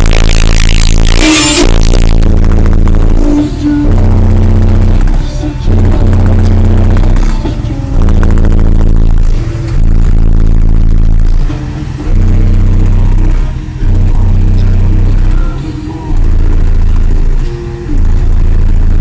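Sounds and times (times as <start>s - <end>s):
bass-heavy music from subwoofers: 0.0s - 19.0s.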